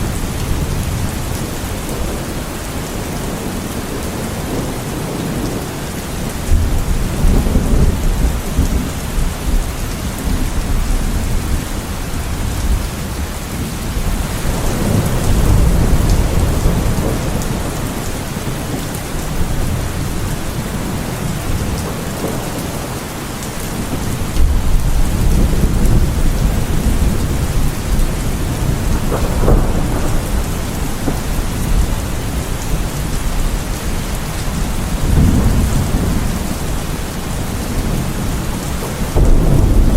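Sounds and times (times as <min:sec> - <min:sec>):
heavy rain: 0:00.0 - 0:39.9
thunder rolling: 0:00.0 - 0:39.9.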